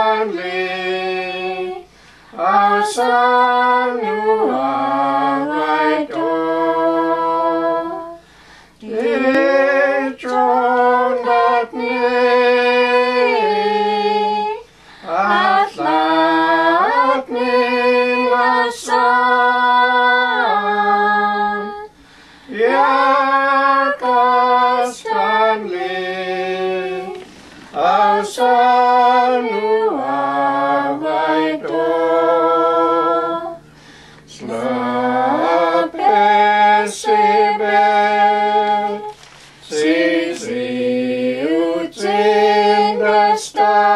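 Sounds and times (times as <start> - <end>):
women singing a hymn: 0.0 - 43.9.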